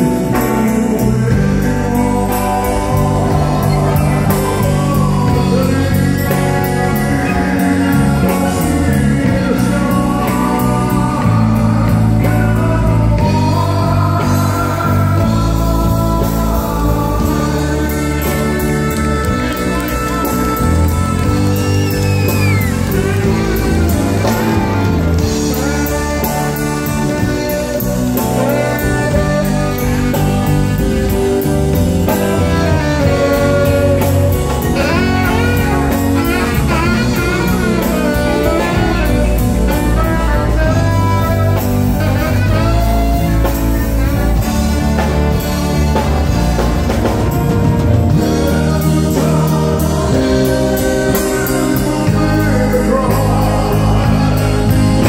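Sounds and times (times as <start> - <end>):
drums: 0.0 - 55.0
electric guitars: 0.0 - 55.0
man singing: 0.0 - 55.0
saxophone: 0.0 - 55.0.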